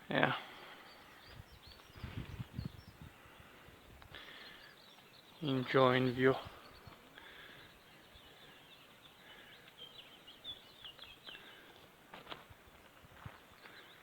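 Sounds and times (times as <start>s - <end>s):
faint bird chirps: 0.2s - 11.8s.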